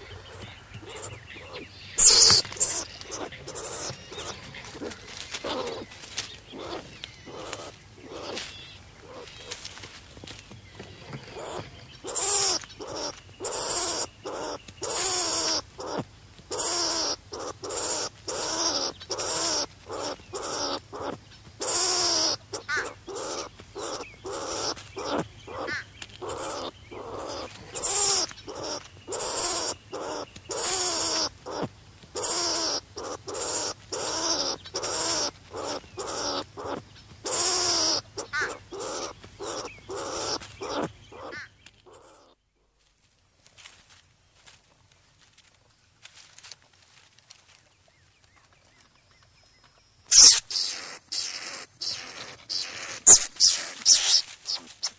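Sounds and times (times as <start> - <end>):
skunk squeaking: 0.0 - 9.6, 11.1 - 42.4, 50.1 - 54.9.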